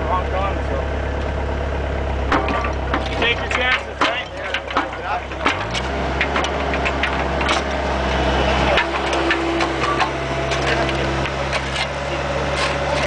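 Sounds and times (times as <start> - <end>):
diesel engine running: 0.0 - 13.0
scraping against steel bucket: 2.3 - 13.0.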